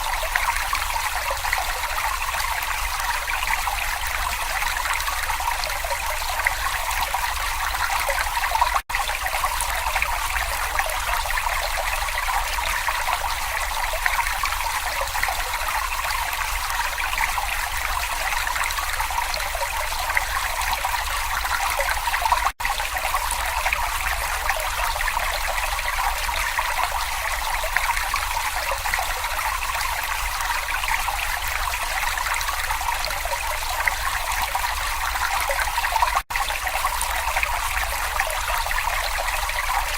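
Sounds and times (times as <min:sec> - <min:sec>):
small stream babbling: 0:00.0 - 0:39.9.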